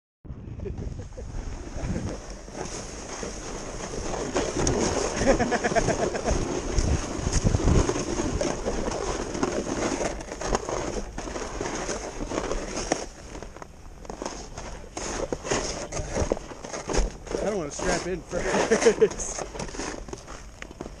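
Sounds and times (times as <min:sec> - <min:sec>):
snowboard scraping over packed snow: 0:00.8 - 0:21.0.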